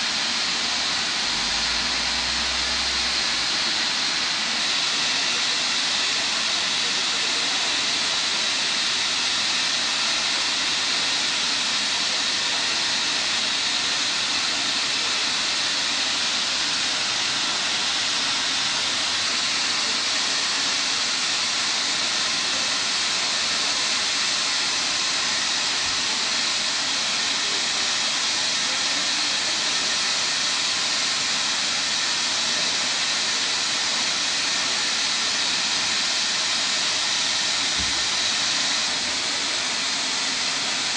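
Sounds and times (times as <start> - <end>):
gas hissing from pipe: 0.0 - 40.9.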